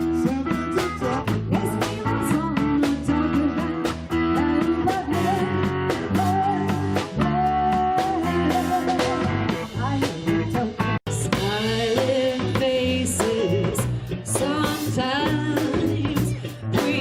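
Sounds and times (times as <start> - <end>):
guitar: 0.0 - 17.0
live band music: 0.0 - 17.0.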